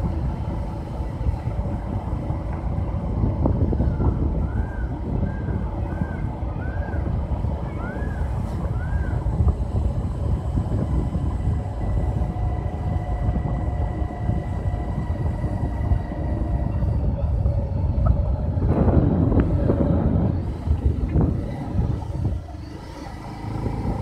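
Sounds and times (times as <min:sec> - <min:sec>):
vehicle running noise: 0:00.0 - 0:24.0
wind buffeting microphone: 0:00.0 - 0:24.0.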